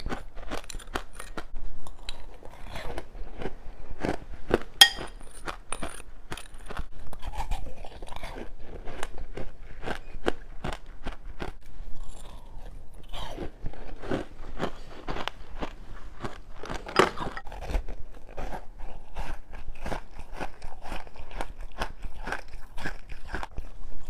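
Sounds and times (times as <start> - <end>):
chewing and crunching frost: 0.0 - 24.0.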